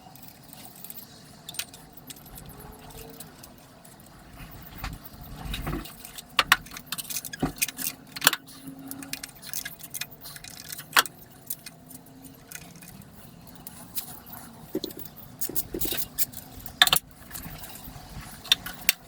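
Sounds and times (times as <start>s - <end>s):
metal tools clinking: 0.0s - 19.0s.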